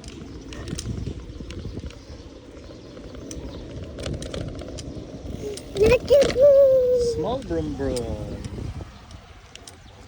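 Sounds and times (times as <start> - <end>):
bicycle tyres rumbling: 0.0 - 10.0
wind on microphone: 0.0 - 10.0.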